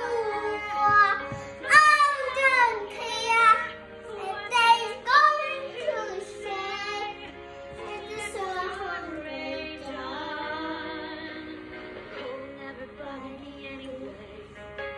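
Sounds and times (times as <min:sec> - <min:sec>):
musical backing: 0:00.0 - 0:14.9
woman singing with vibrato: 0:00.0 - 0:14.9
young girl singing along: 0:00.0 - 0:14.9.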